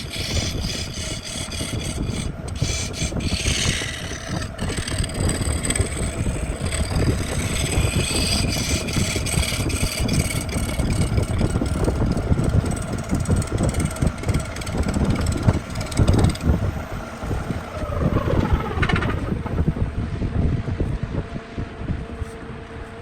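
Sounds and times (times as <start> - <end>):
rough clattering noise: 0.0 - 19.6
wood lathe motor whine: 0.0 - 20.6.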